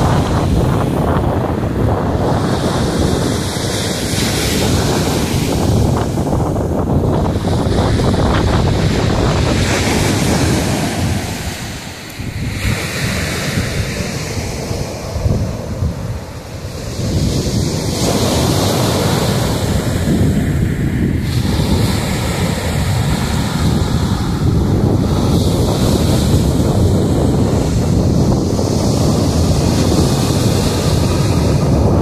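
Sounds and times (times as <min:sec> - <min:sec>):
waves washing up a beach: 0:00.0 - 0:32.0
wind buffeting microphone: 0:00.0 - 0:32.0.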